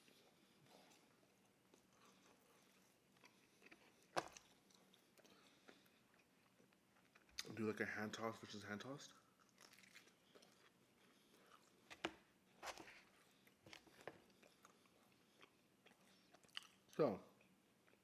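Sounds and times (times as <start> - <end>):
wet chewing with mouth smacks: 0.0 - 7.6, 9.2 - 18.0.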